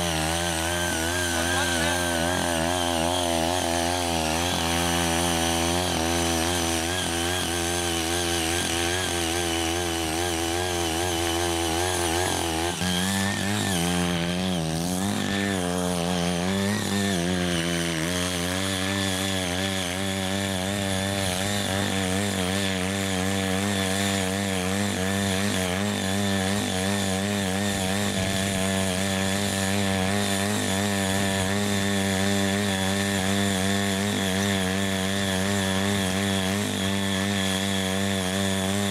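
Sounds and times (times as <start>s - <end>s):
small gasoline engine running: 0.0s - 38.9s
tines tilling soil: 0.0s - 38.9s.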